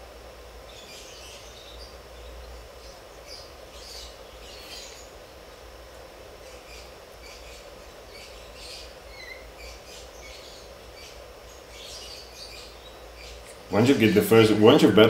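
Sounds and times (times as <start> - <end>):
steady low hum: 0.0 - 15.0
faint bird chirps: 0.6 - 5.2, 6.4 - 14.2.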